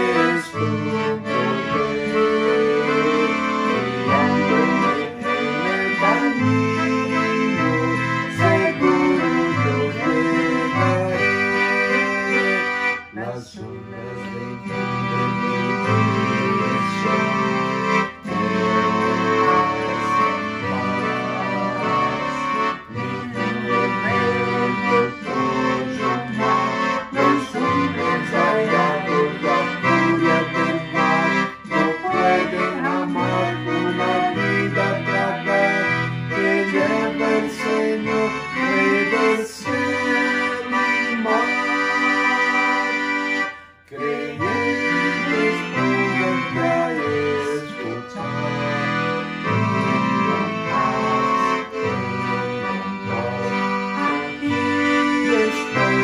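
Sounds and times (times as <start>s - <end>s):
instrumental hymn on reedy keyboard: 0.0s - 56.0s.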